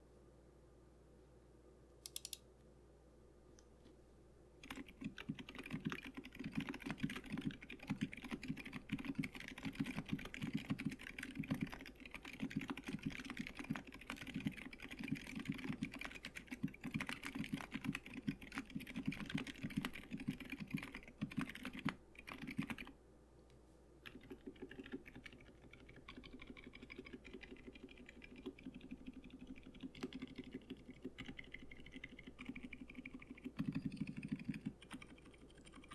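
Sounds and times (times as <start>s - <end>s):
fast typing on mechanical keyboard: 4.6s - 22.9s, 24.0s - 35.9s.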